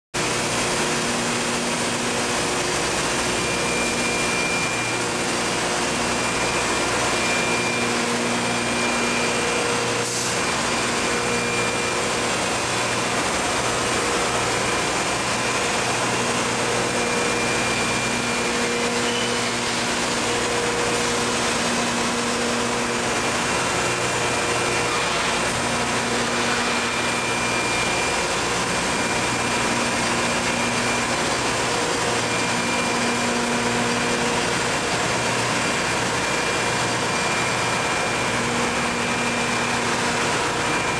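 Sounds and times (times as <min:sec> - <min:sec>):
machinery hissing and humming: 0:00.2 - 0:40.9.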